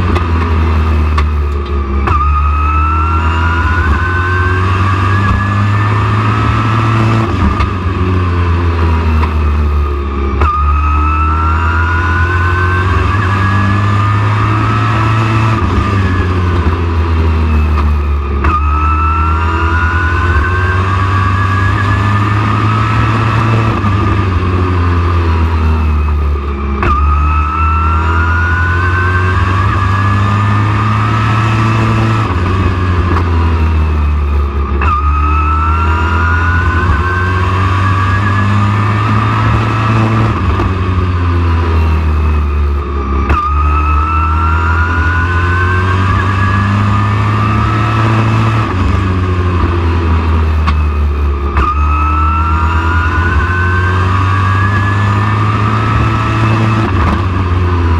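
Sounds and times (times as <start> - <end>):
race truck engine revving: 0.0 - 57.9.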